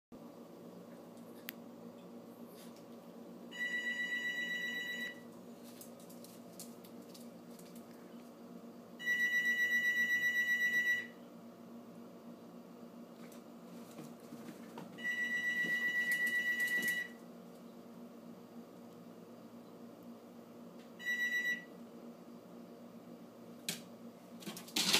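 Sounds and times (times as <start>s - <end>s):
low steady hum: 0.2s - 24.9s.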